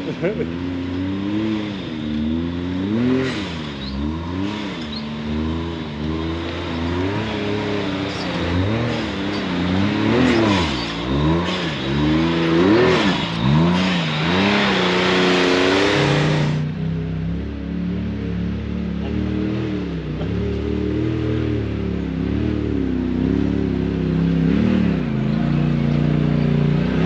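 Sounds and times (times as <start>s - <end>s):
utility vehicle engine revving: 0.0s - 27.0s.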